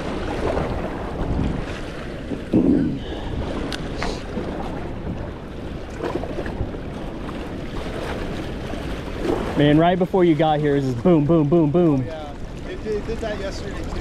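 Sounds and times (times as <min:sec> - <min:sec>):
water rushing: 0:00.0 - 0:14.0
wind buffeting microphone: 0:00.0 - 0:14.0.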